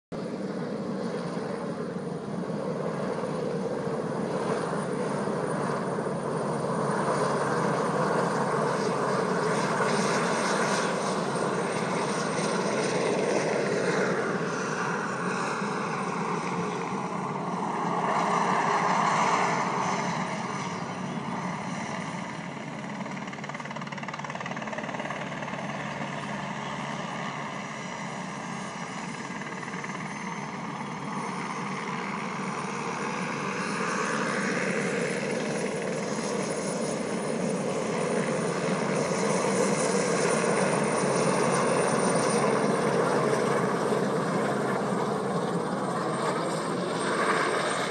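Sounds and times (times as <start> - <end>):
helicopter flying low: 0.1 - 47.9.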